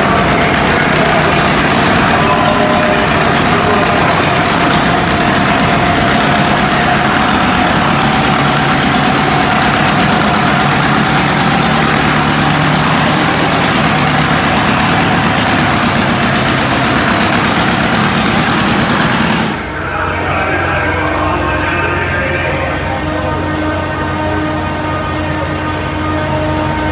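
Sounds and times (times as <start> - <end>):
music: 0.0 - 26.9
tractor engine at high revs: 0.0 - 26.9.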